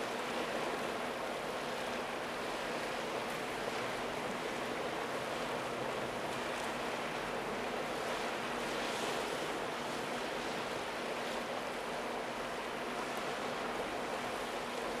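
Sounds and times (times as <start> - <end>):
wind over water: 0.0 - 15.0.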